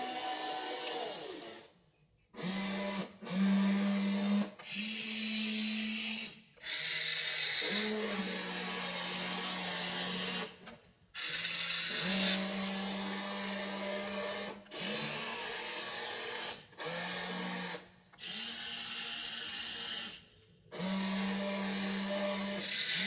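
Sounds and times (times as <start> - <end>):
toy excavator electric motors whining: 0.0 - 1.8, 2.4 - 23.0.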